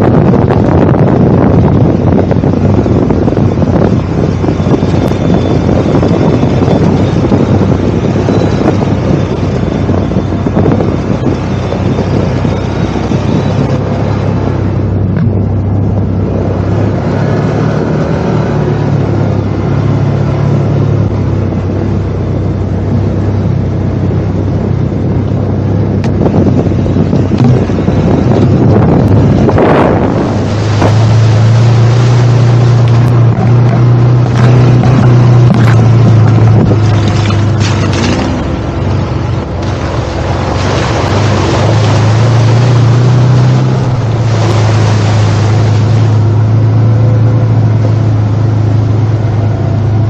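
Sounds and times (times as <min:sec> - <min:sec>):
atv engine running: 0:00.0 - 0:50.0
wind buffeting microphone: 0:00.0 - 0:50.0.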